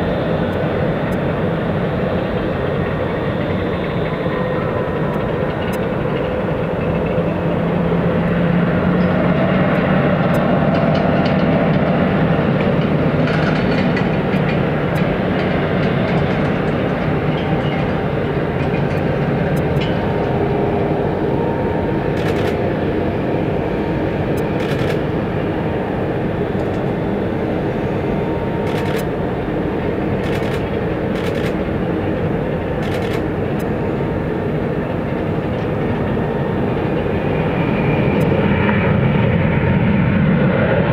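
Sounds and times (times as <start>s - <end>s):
jet aircraft rumble and whine: 0.0s - 40.9s.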